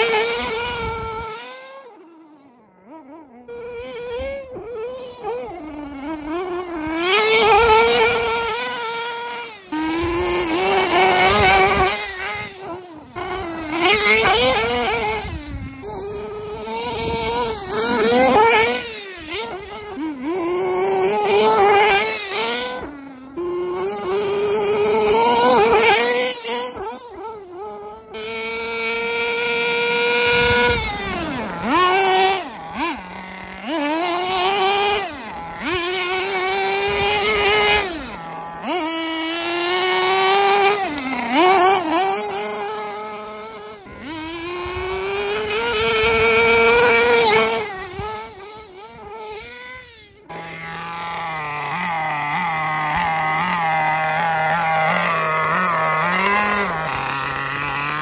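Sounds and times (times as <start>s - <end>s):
nitro engine buzz revving: 0.0s - 58.0s.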